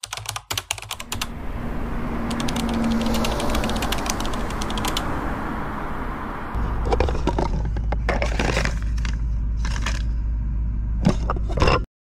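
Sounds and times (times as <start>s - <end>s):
steady low rumble: 1.0s - 11.1s.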